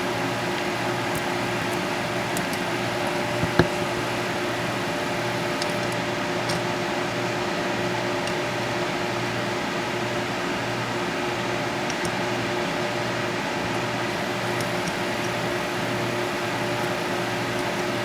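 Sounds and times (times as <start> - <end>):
mechanical hum with hiss: 0.0 - 18.0.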